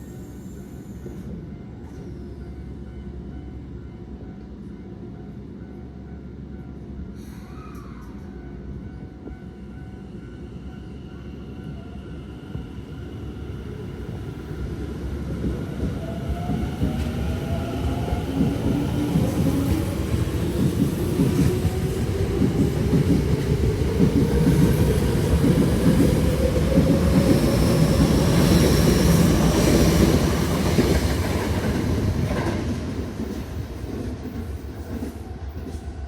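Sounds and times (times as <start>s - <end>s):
train rumble and wheel clatter: 0.0s - 36.0s.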